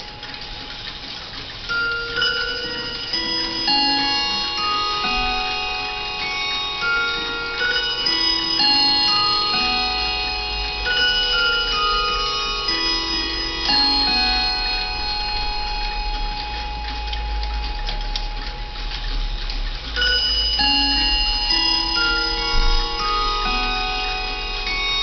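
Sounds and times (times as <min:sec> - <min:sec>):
clock ticking: 0:00.0 - 0:25.0
mantel clock chime tune: 0:00.0 - 0:25.0.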